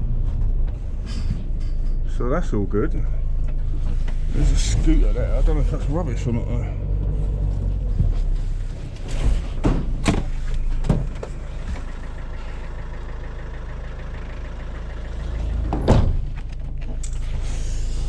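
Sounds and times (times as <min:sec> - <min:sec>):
vehicle engine low rumble: 0:00.0 - 0:18.0.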